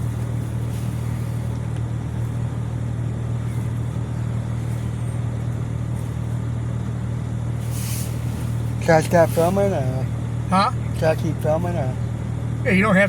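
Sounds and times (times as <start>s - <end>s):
car engine hum: 0.0s - 13.0s
tyres on road: 0.0s - 13.0s.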